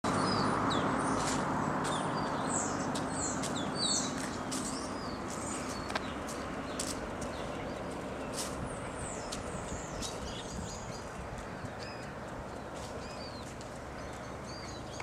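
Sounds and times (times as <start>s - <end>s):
rushing background noise: 0.1s - 15.0s
small birds chirping and twittering: 0.1s - 15.0s.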